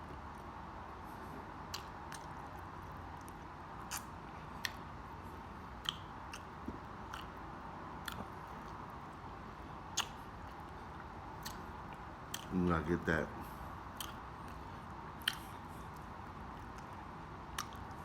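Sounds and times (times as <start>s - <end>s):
chewing and mouth smacks: 1.1s - 9.2s, 9.9s - 12.6s, 13.4s - 18.0s.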